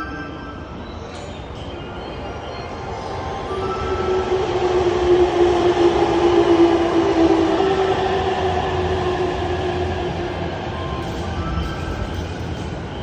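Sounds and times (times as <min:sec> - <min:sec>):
electric locomotive whine: 0:00.0 - 0:13.0
train wheels rumbling: 0:01.0 - 0:13.0.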